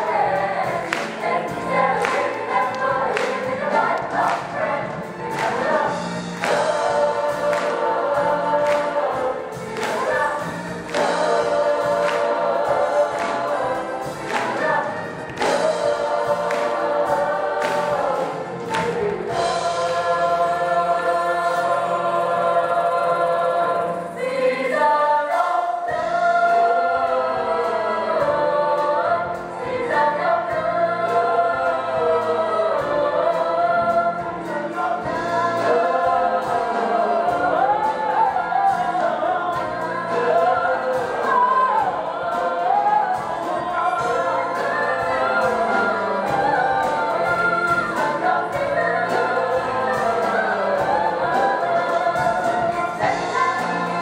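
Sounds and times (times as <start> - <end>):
live band playing: 0.0 - 22.4, 28.3 - 54.0
ensemble singing in chorus: 0.0 - 54.0.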